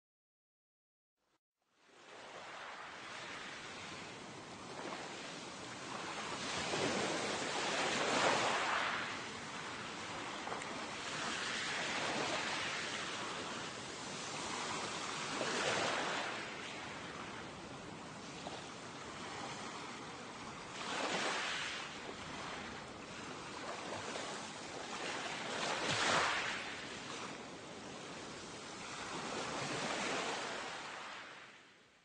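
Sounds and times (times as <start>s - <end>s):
ocean waves washing in: 1.8s - 31.8s.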